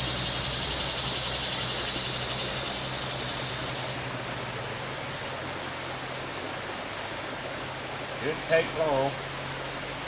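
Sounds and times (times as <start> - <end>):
creek water flowing: 0.0 - 10.0
high steady hiss: 0.0 - 10.0.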